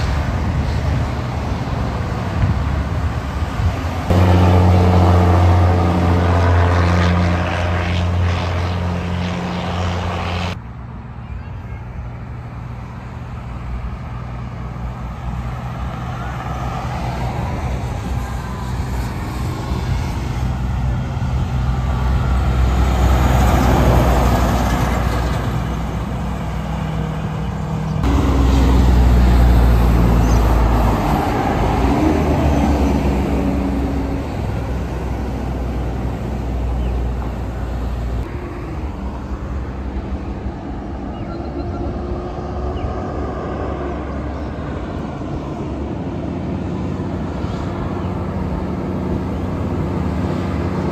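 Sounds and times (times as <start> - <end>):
heavy trucks passing: 0.0 - 50.9.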